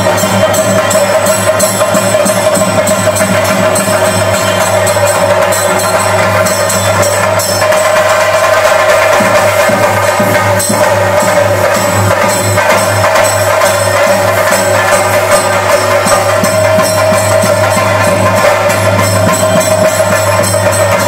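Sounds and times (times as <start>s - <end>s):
drums beaten loudly: 0.0s - 21.0s
steady ringing band: 0.0s - 21.0s.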